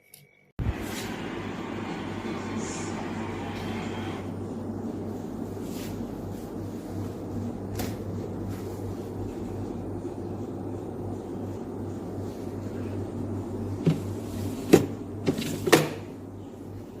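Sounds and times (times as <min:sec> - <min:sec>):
freezer low hum: 0:00.0 - 0:17.0.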